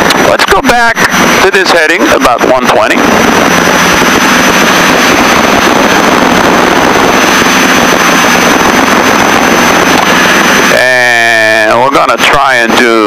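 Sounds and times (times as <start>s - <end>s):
aircraft cabin engine noise: 0.0s - 13.0s.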